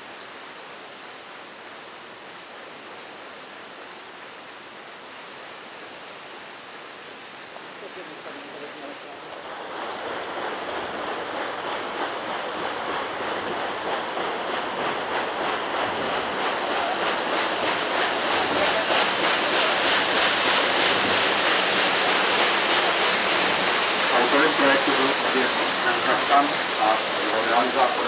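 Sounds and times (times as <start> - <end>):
rushing churning water: 0.0 - 28.0.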